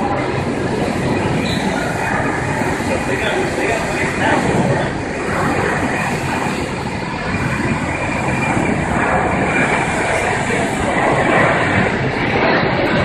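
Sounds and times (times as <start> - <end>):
jet airliner engines rumbling: 0.0 - 13.0.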